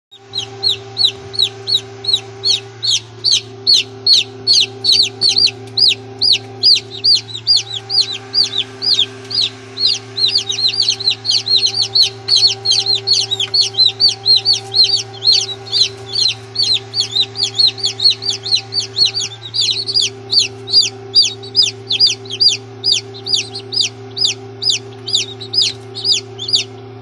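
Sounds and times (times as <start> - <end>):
chicks peeping: 0.1 - 27.0
steady low hum: 0.2 - 27.0.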